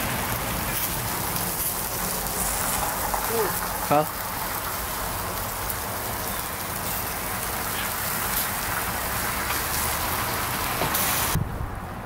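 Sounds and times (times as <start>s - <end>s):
meat sizzling on a charcoal grill: 0.0s - 11.4s.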